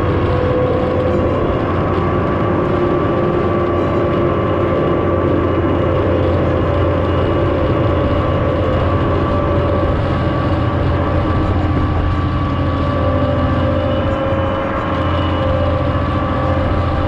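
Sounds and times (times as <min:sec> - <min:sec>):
tractor engine drone: 0:00.0 - 0:17.0.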